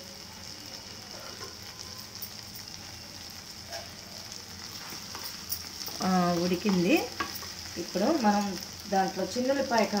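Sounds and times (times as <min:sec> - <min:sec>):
curry sizzling in oil: 0:00.0 - 0:10.0.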